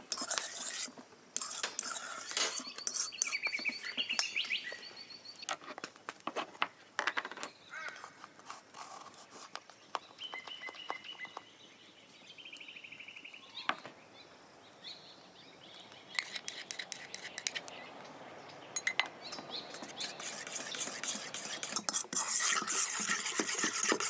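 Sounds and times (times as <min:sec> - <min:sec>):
birds trilling and chirping: 0:00.2 - 0:05.5, 0:09.7 - 0:23.7.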